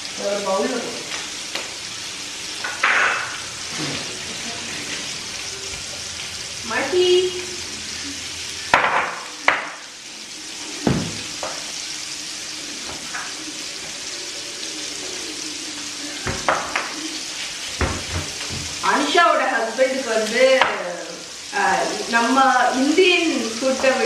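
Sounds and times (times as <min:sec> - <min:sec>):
chicken sizzling in frying pan: 0:00.0 - 0:24.0.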